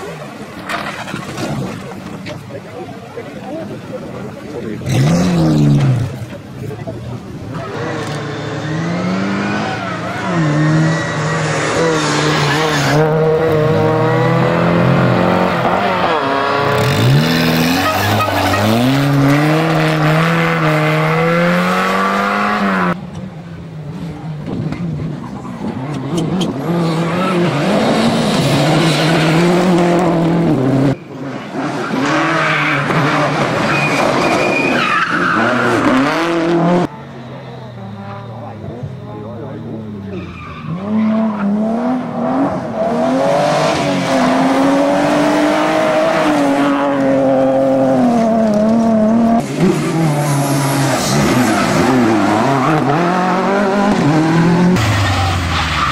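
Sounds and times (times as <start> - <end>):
rally car engines revving: 0.0 - 55.9
tyres skidding: 0.0 - 55.9.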